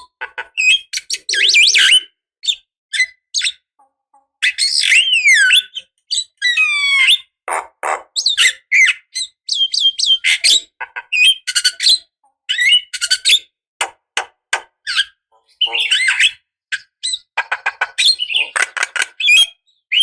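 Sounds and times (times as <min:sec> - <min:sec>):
bird singing squawks and whistles: 0:00.0 - 0:03.7, 0:04.4 - 0:13.5, 0:14.8 - 0:20.0.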